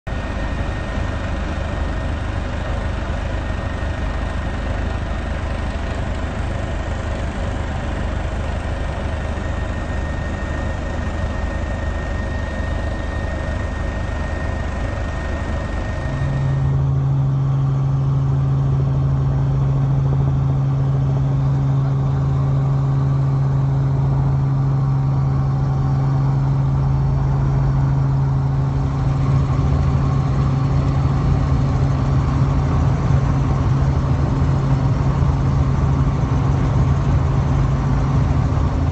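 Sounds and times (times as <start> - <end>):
helicopter engine and rotor: 0.1 - 38.9
loud steady low hum: 0.1 - 38.9.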